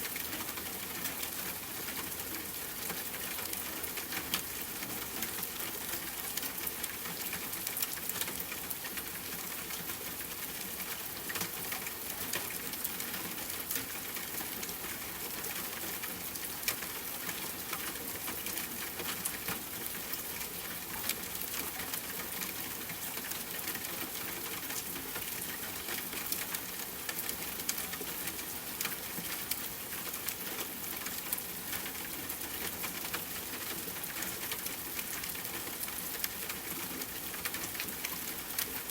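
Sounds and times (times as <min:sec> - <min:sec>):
rain pattering on a tent: 0:00.0 - 0:38.9.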